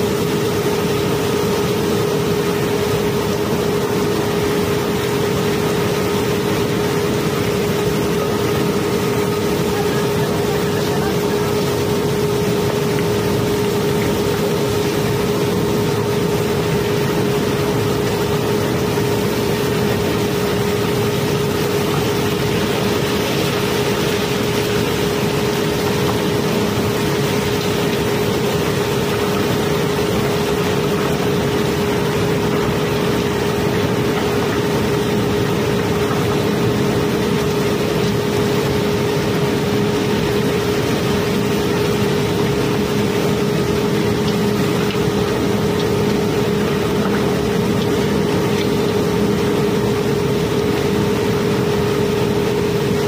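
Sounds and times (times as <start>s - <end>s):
machine drone humming: 0.0s - 53.0s.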